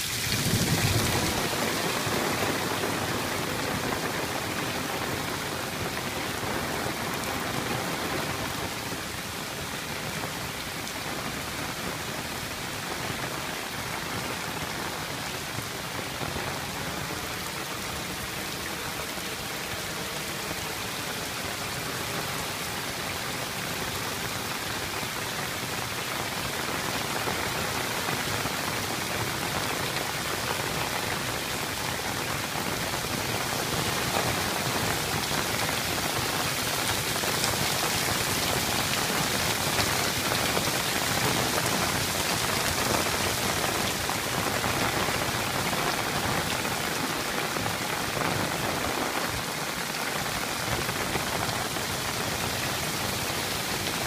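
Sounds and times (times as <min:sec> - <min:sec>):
heavy rain on pavement: 0:00.0 - 0:54.0.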